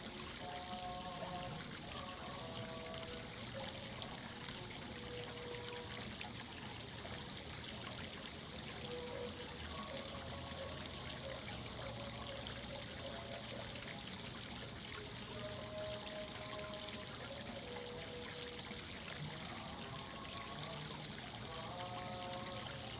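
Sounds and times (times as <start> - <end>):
water pouring and trickling: 0.0 - 22.9.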